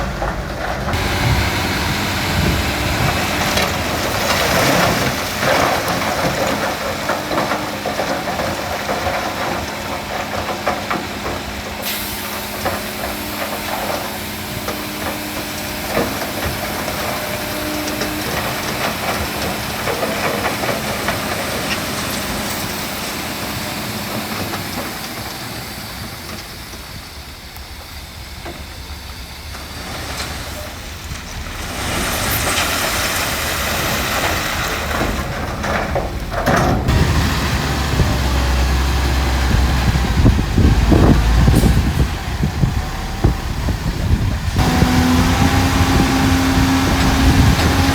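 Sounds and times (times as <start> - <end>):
diesel machinery engines: 0.0 - 47.9.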